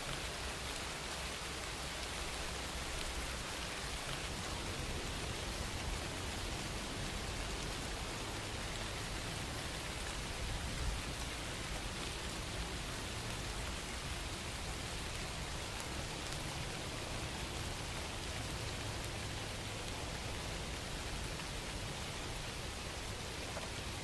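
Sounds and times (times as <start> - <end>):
rain patter: 0.0 - 24.0.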